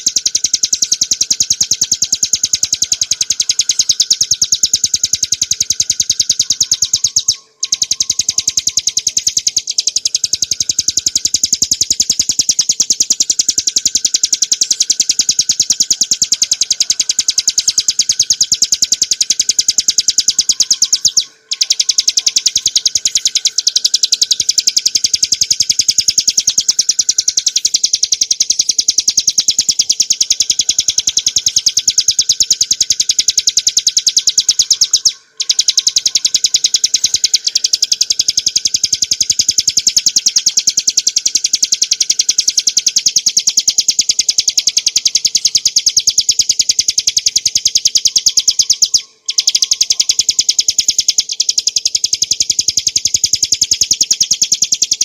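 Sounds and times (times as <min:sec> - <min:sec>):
bird singing rapid high notes: 0:00.0 - 0:55.0.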